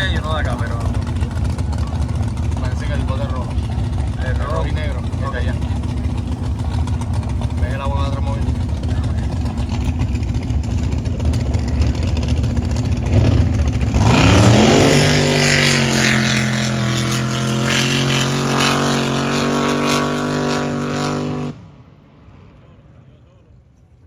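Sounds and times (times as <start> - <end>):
engine revving to high drone: 0.0 - 22.0
boat engines rumbling: 0.0 - 24.0.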